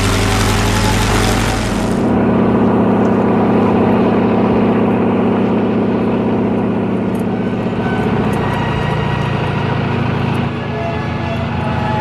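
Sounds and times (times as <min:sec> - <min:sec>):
propeller aeroplane engine droning: 0:00.0 - 0:12.0.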